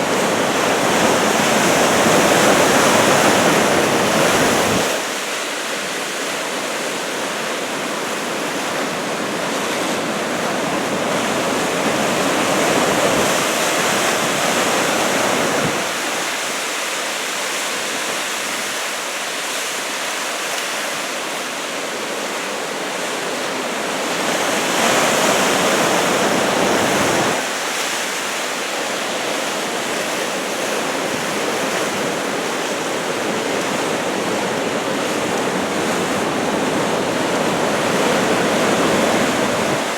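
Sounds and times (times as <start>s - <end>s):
heavy ocean surf: 0.0s - 39.9s.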